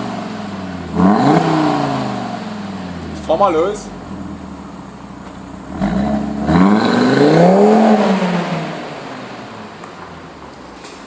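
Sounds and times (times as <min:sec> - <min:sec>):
car engine revving: 0:00.0 - 0:09.9.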